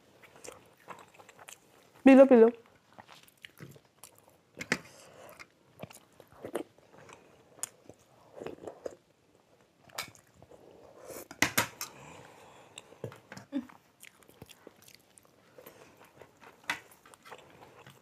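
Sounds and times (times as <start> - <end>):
person chewing: 0.2 - 2.0, 2.8 - 11.3, 12.0 - 18.0.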